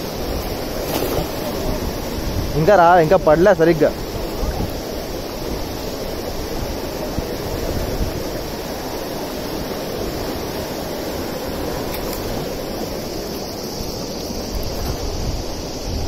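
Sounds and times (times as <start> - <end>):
river rushing over rapids: 0.0 - 16.0
wind rumble on microphone: 0.0 - 16.0.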